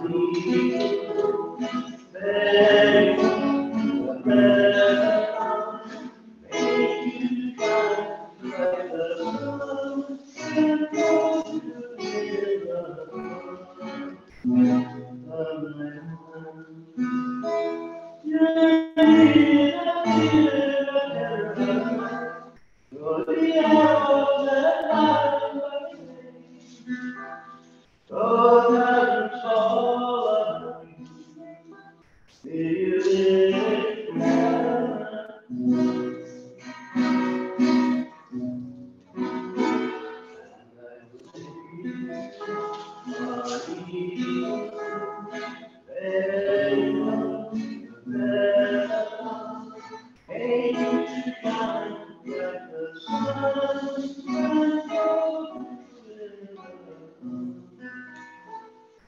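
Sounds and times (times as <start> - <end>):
singing with instrumental accompaniment: 0.0 - 59.0.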